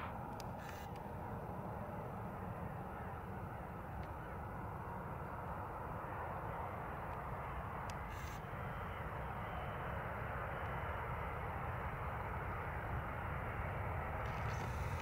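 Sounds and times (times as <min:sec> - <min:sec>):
distant jet engine rumble: 0:00.0 - 0:15.0.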